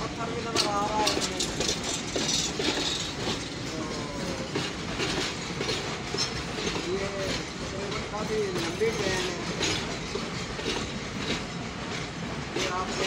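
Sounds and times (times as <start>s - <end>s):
freight train wheel and rail noise: 0.0s - 13.0s
train wheels clicking and knocking: 0.0s - 13.0s.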